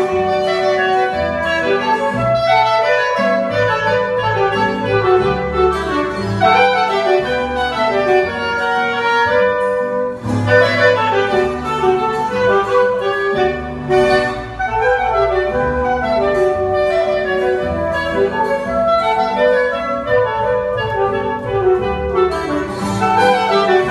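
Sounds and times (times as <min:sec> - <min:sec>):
clarinet and saxophone melody: 0:00.0 - 0:23.9
plucked bass notes: 0:00.0 - 0:23.9.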